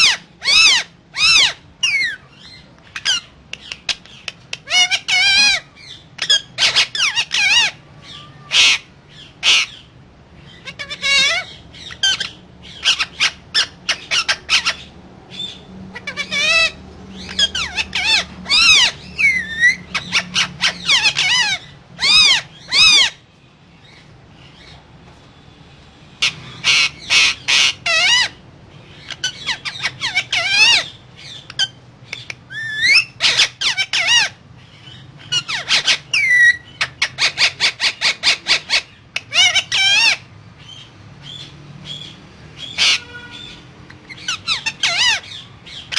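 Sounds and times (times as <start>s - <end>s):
parakeet squawking: 0.0s - 24.8s, 26.1s - 45.9s.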